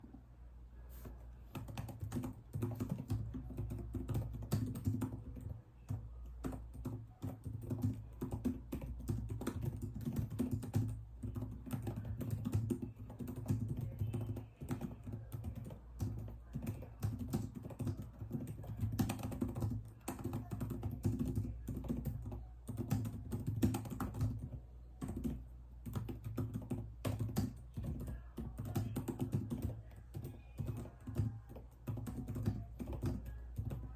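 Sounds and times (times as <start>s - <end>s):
low steady hum: 0.0s - 33.9s
computer keyboard typing: 1.5s - 33.9s.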